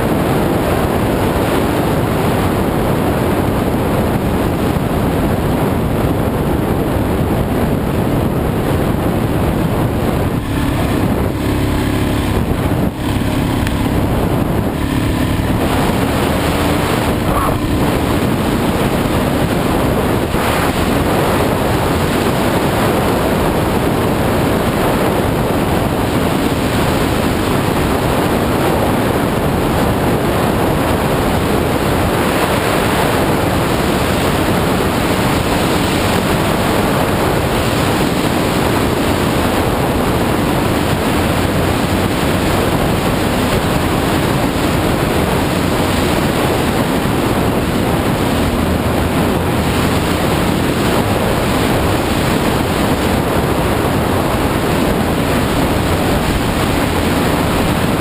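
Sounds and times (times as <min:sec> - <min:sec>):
dirt bike engine running: 0:00.0 - 0:58.0
wind buffeting microphone: 0:00.0 - 0:58.0.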